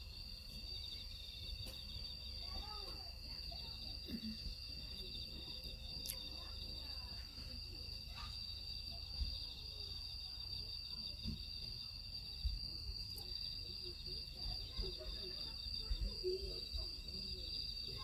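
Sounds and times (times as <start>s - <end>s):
insect chorus trilling: 0.0s - 18.0s.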